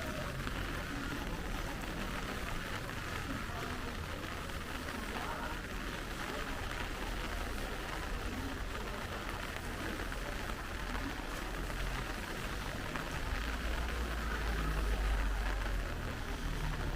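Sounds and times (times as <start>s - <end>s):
rain pattering: 0.0s - 16.9s.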